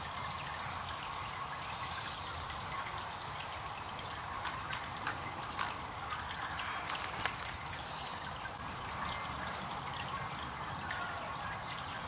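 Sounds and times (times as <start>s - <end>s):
fountain jet splashing and trickling: 0.0s - 12.0s
sharp drip splashes: 0.0s - 12.0s.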